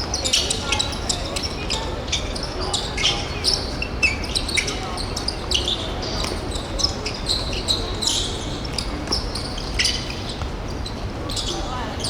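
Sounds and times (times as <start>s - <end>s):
shoes squeaking on court floor: 0.0s - 12.0s.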